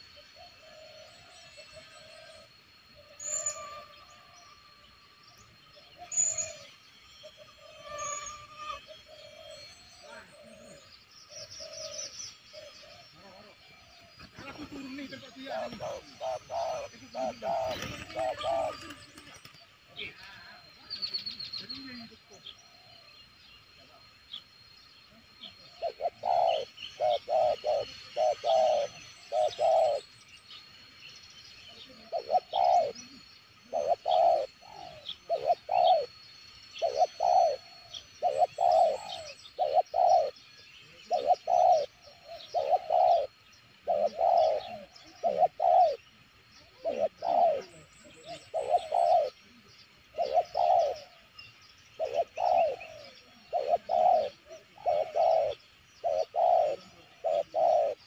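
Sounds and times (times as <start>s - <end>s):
dove cooing: 0.0s - 4.4s, 5.8s - 6.8s, 7.7s - 19.7s, 25.2s - 30.2s, 31.7s - 51.3s, 51.9s - 58.0s.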